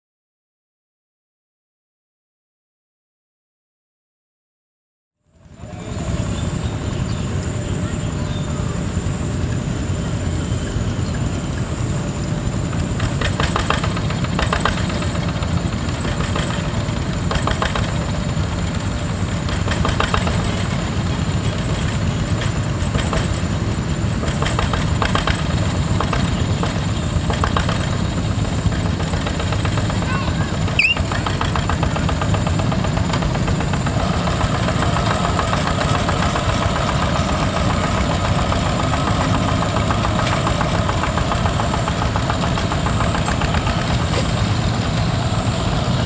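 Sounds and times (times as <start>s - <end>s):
diesel tractor engine running: 5.3s - 46.0s.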